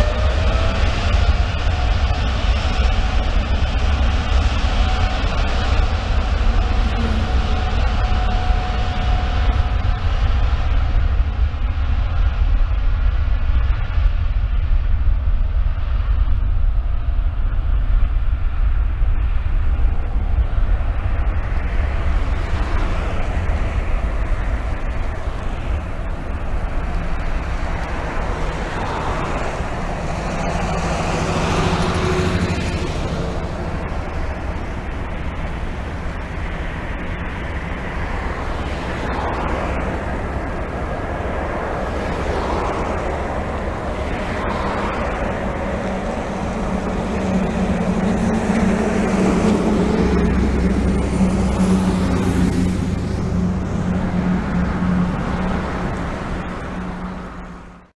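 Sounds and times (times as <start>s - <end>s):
jet engines at takeoff: 0.0s - 58.0s.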